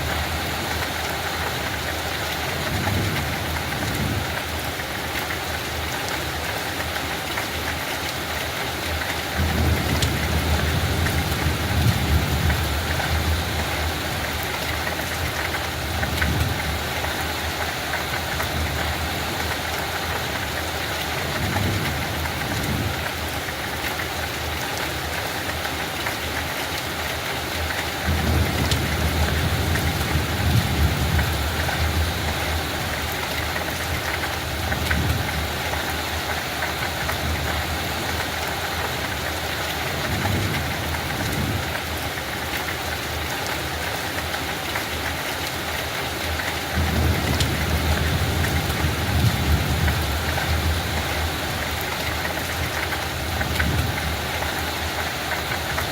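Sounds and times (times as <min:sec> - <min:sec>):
light rain falling: 0:00.0 - 0:55.9.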